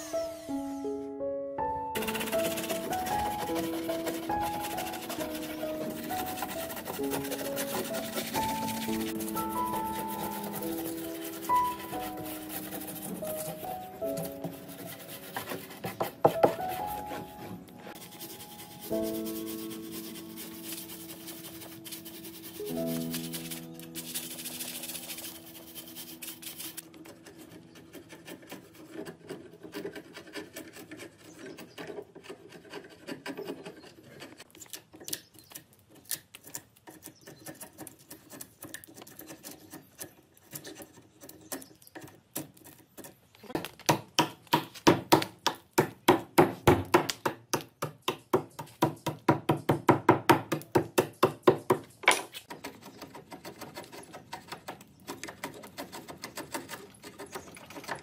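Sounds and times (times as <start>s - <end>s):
metal scraper rasping wood: 0.0s - 0.9s, 2.0s - 49.3s, 50.4s - 58.0s.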